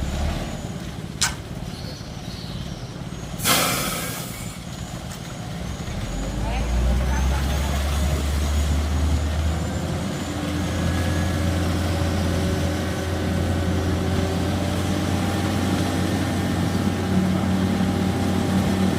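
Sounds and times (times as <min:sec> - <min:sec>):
heavy vehicle engine running: 0:00.0 - 0:18.9.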